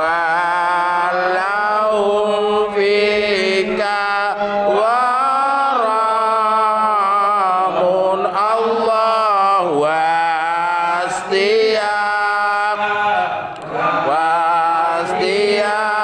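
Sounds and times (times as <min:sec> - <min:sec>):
devotional chant singing: 0:00.0 - 0:16.0.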